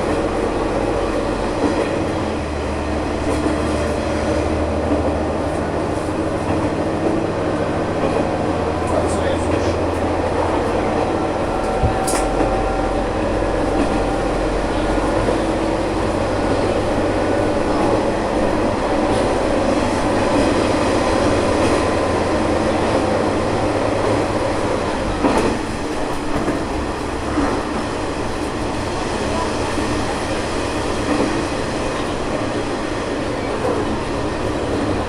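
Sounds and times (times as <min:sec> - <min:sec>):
diesel train engine drone: 0:00.0 - 0:35.0
wheel-on-rail rumble: 0:00.0 - 0:35.0.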